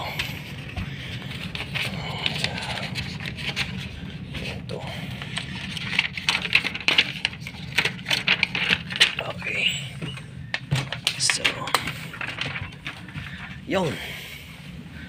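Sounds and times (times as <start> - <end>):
papers rustling: 0.0 - 13.8
steady low hum: 0.0 - 15.0.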